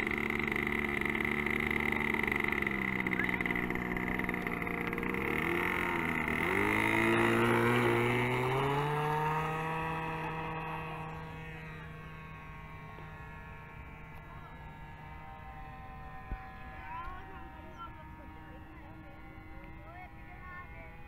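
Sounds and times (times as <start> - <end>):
model plane engine revving: 0.0 - 21.0.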